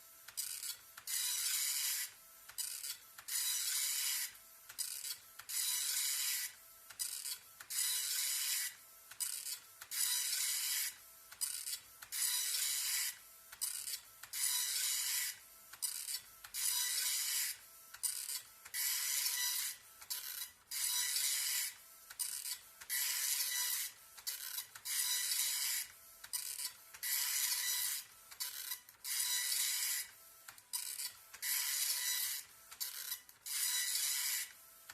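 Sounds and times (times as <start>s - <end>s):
dot-matrix printer buzzing: 0.3s - 34.9s.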